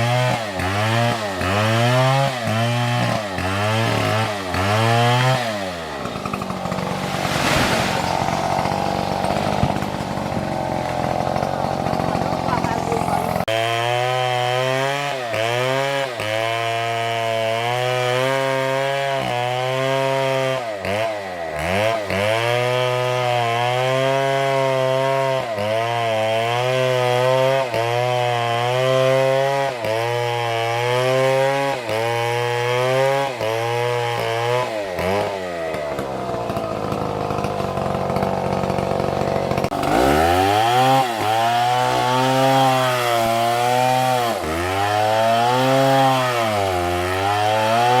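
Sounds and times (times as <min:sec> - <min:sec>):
chainsaw cutting wood: 0:00.0 - 0:48.0.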